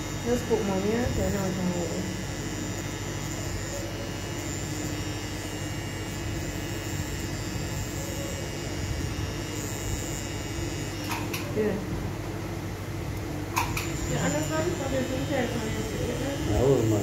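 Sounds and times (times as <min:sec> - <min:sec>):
tattoo machine humming: 0:00.0 - 0:17.0.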